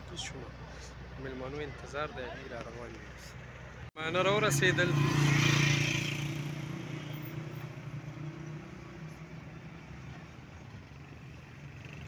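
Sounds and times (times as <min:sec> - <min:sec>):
vehicle engine running low speed: 0:00.0 - 0:12.0.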